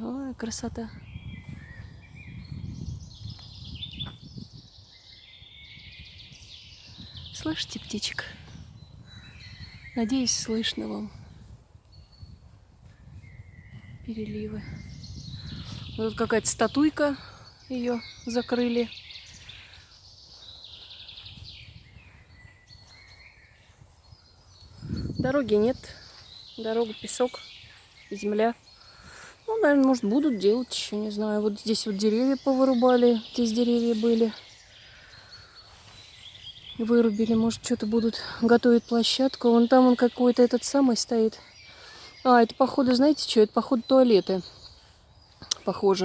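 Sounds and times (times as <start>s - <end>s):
songbirds singing: 0.0s - 46.0s.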